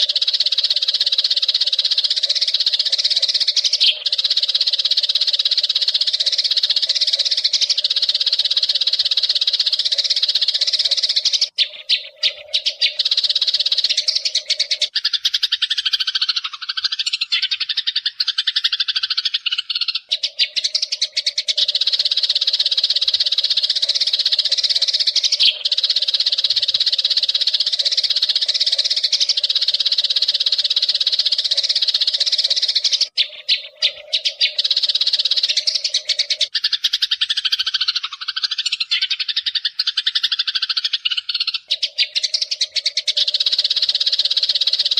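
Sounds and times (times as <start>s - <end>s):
sparrows chirping: 0.0s - 44.9s.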